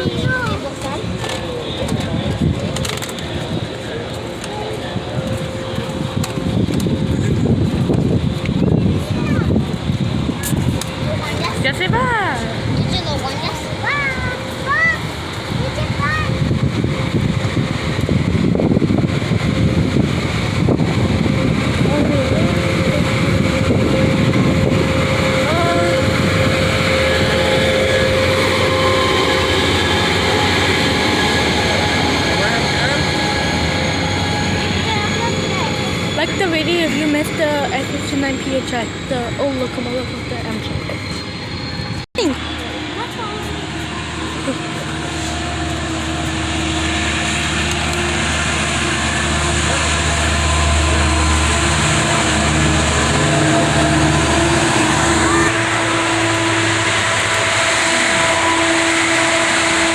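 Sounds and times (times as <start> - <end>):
diesel locomotive engine: 0.0 - 59.9
held steady tone: 0.0 - 59.9.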